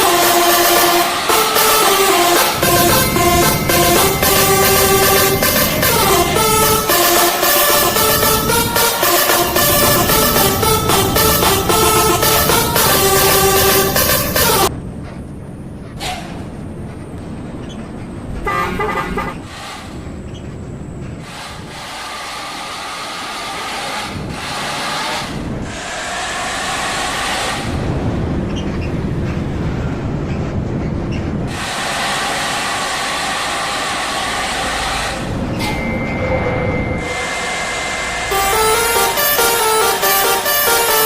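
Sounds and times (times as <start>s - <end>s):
bus engine and tyre noise: 0.0s - 41.0s.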